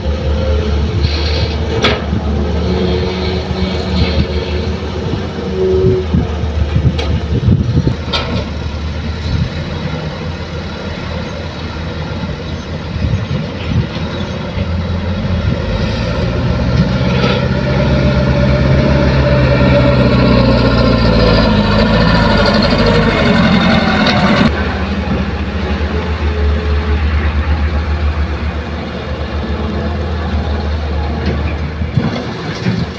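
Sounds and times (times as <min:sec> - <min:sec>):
heavy diesel engines running: 0:00.0 - 0:32.9.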